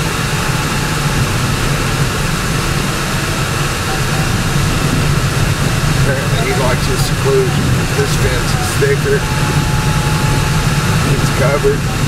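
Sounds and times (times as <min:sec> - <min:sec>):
car engine drone: 0:00.0 - 0:12.0
tyre and road rumble: 0:00.0 - 0:12.0.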